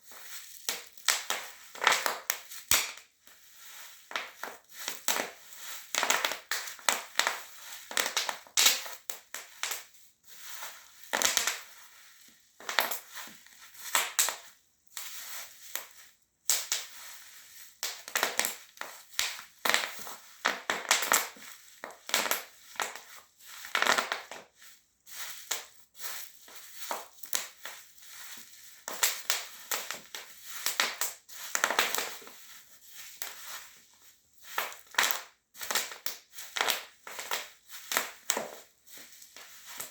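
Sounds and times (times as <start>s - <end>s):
bubble wrap popping under heels: 0.0s - 39.9s.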